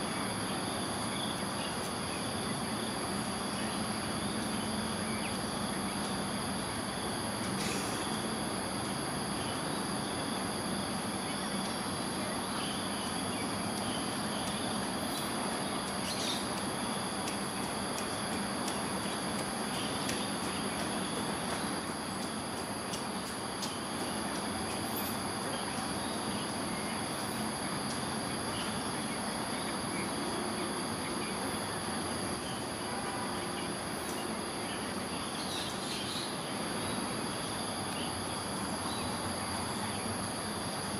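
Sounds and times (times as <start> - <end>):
steady background noise: 0.0 - 40.9.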